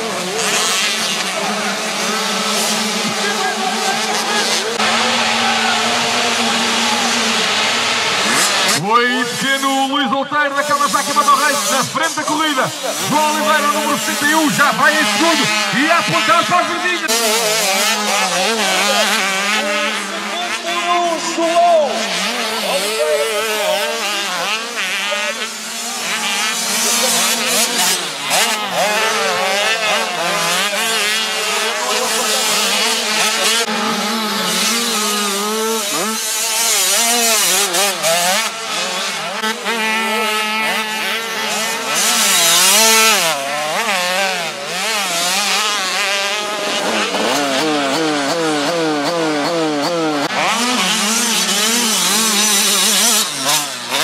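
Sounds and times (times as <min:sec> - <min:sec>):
motocross engines revving: 0:00.0 - 0:54.0.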